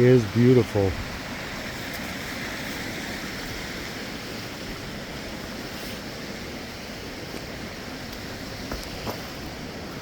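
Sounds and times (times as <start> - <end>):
waterfall and stream rushing: 0.0 - 10.0.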